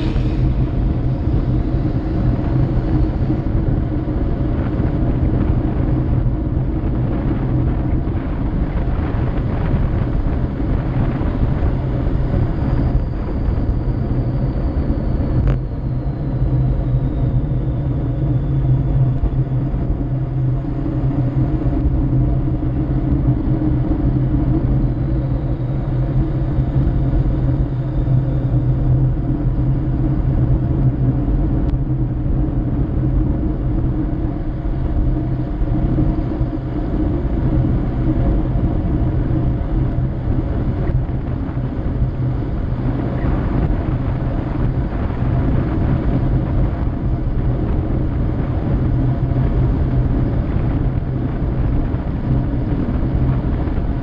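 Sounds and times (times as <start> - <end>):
tyres rumbling on rough asphalt: 0.0 - 54.0
wind noise on microphone: 0.0 - 54.0.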